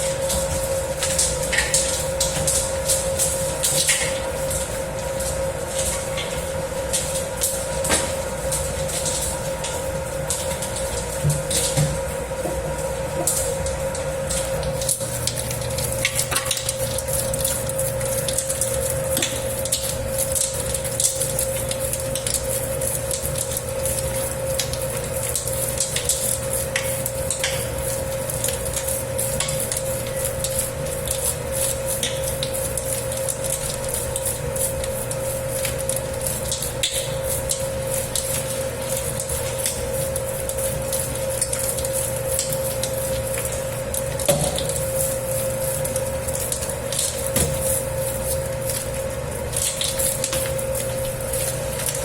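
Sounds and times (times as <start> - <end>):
dough clicks and knocks in bowl: 0.0 - 52.0
dough machine motor hum: 0.0 - 52.0.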